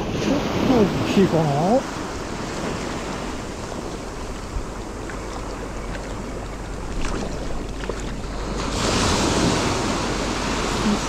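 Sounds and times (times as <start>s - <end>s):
sea waves washing: 0.0s - 11.0s.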